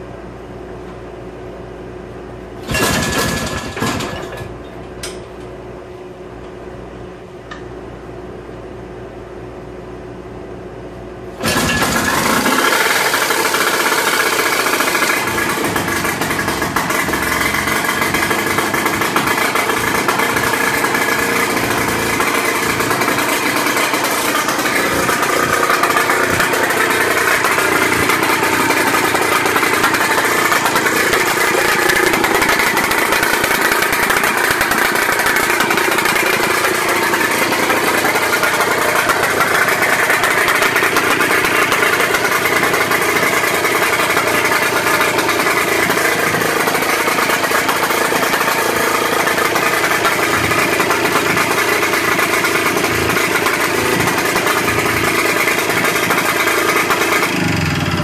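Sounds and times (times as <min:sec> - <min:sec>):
outboard engine running: 0:11.4 - 0:58.0.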